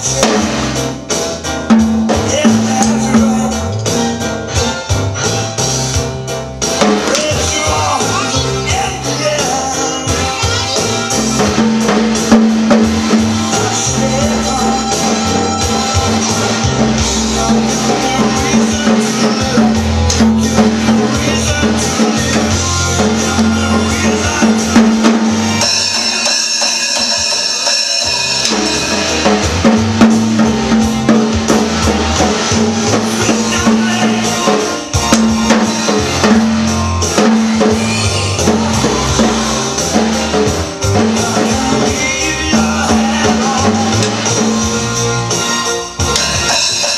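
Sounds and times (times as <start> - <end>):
recorded song playing loudly: 0.0 - 46.9
toddler banging on a drum kit: 0.0 - 46.9.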